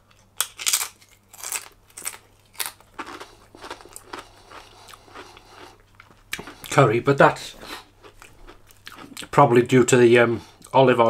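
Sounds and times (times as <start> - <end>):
person chewing crunchy food: 0.0 - 9.4.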